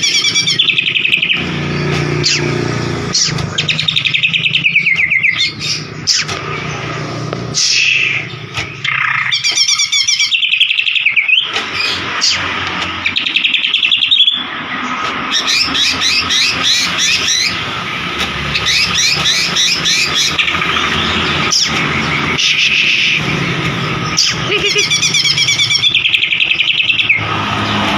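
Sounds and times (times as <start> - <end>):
songbird singing trills: 0.0 - 27.9.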